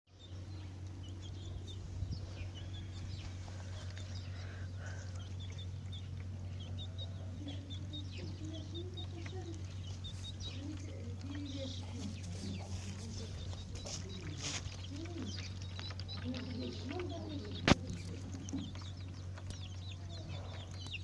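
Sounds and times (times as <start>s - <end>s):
small birds chirping: 0.1s - 21.0s
steady low hum: 0.1s - 21.0s
chickens clucking: 0.3s - 21.0s.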